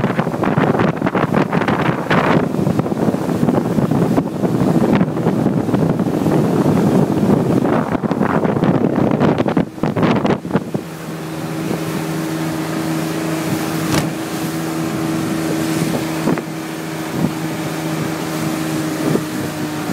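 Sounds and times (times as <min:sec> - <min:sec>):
motorboat engine running: 0:00.0 - 0:19.9
wind buffeting microphone: 0:00.0 - 0:19.9.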